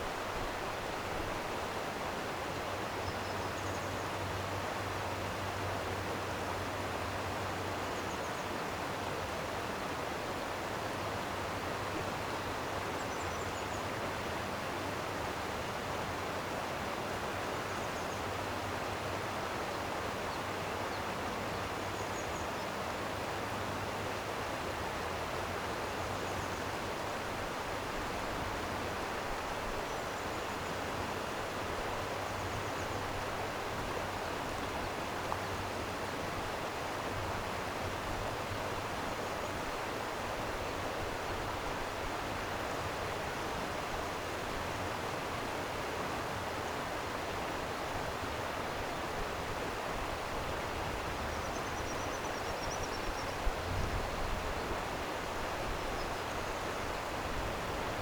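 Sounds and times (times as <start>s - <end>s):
stream flowing water: 0.0s - 58.0s.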